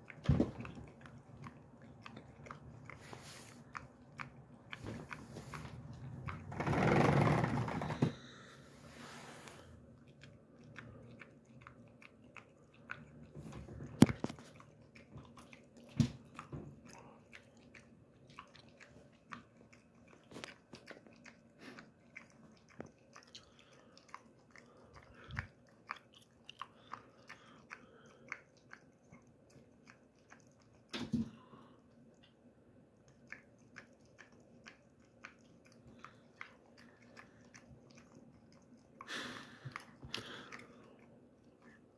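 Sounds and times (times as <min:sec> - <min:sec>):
dog chewing with wet crunches: 0:00.0 - 0:41.9.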